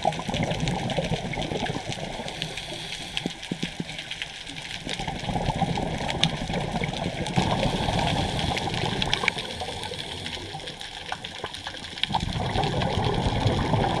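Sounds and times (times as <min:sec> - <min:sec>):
underwater regulator bubbles: 0:00.0 - 0:14.0.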